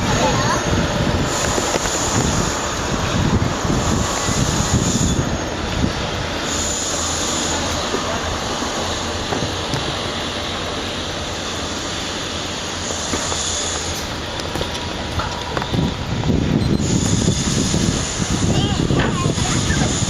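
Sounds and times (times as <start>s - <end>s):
high wheel squeal: 0.0s - 5.7s, 6.4s - 20.0s
freight train rumbling past: 0.0s - 20.0s.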